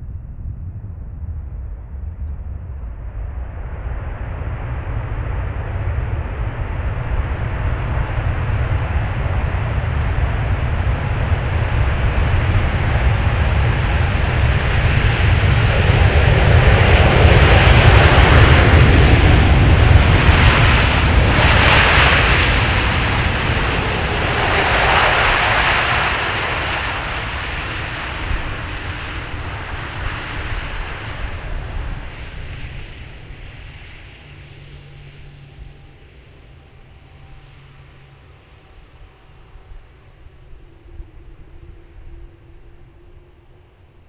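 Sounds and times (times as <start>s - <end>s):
jet airliner flying overhead: 0.0s - 44.0s.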